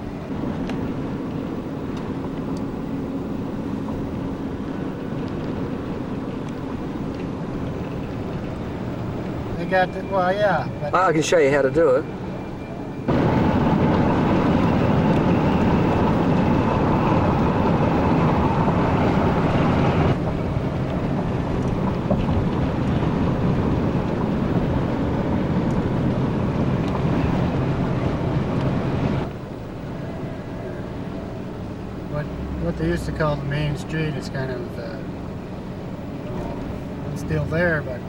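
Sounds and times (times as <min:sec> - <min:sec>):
wind and road noise in car: 0:00.0 - 0:38.0.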